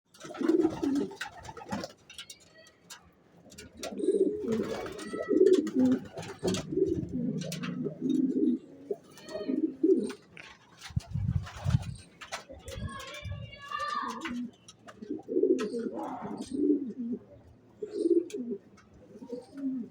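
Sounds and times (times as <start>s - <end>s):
pigeons cooing: 0.1s - 1.9s, 3.4s - 19.9s.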